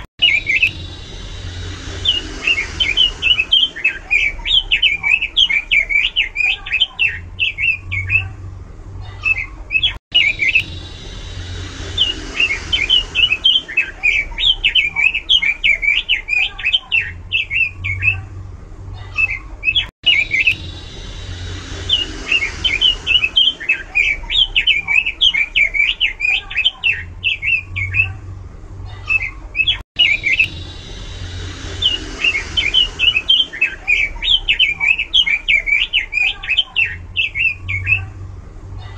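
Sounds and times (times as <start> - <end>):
bird singing warbling phrases: 0.0 - 8.4, 9.0 - 18.3, 18.9 - 38.2.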